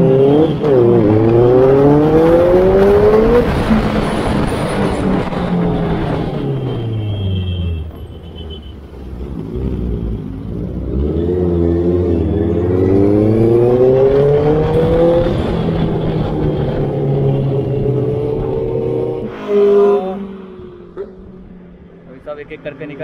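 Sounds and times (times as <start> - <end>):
motorcycle engine revving: 0.0 - 6.8, 9.0 - 21.9.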